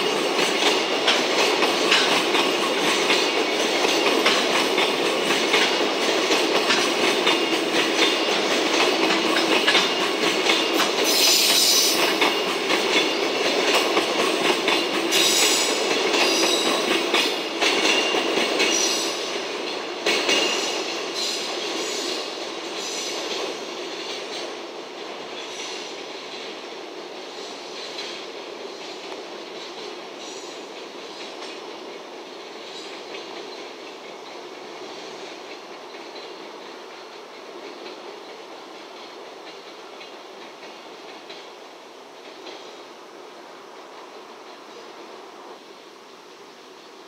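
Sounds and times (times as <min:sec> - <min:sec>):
train wheels clattering over rail joints: 0:00.0 - 0:42.9.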